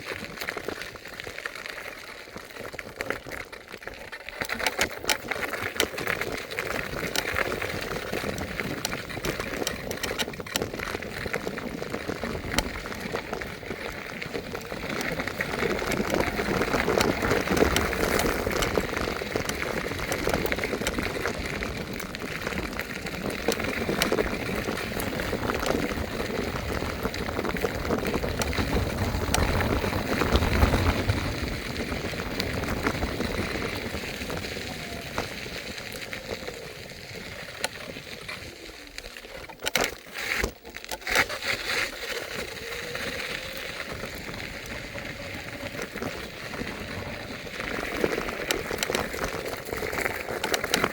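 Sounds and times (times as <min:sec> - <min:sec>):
scooter tyres rolling: 0:00.0 - 0:50.9.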